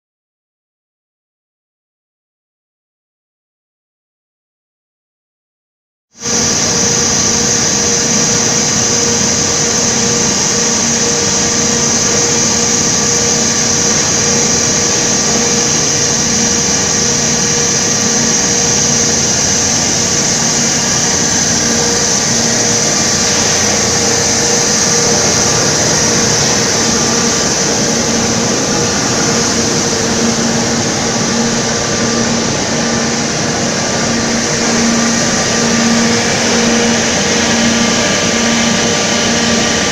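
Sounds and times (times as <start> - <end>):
grinder mills humming and hissing: 6.2 - 39.9.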